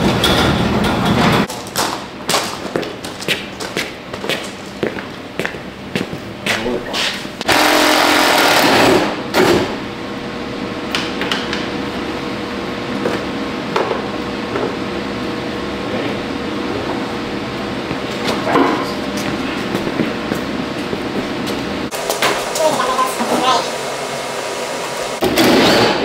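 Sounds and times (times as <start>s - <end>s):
steady hum: 2.1s - 26.0s.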